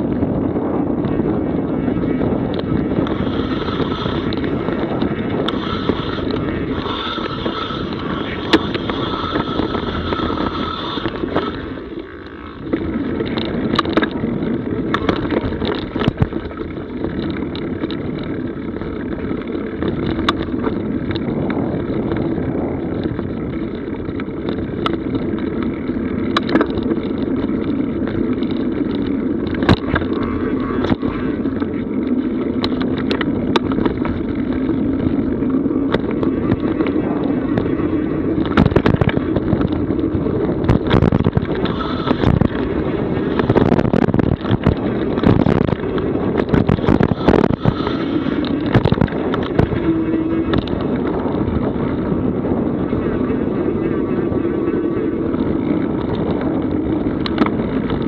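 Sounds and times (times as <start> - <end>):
bike clicks and rattles: 0.0 - 58.0
bike tyres rumbling on dirt: 0.0 - 58.0.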